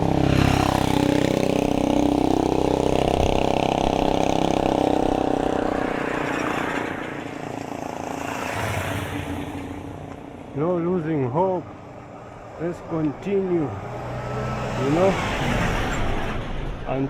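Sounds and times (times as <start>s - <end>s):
vehicle engine passing: 0.0s - 17.0s.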